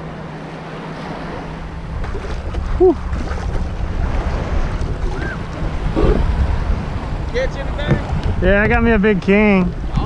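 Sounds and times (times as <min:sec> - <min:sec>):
water sloshing and splashing: 0:00.0 - 0:10.0
wind buffeting microphone: 0:01.0 - 0:10.0.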